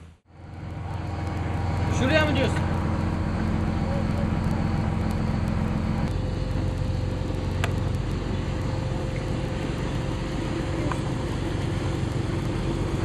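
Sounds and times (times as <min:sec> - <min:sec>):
boat engine running: 0:00.2 - 0:13.0.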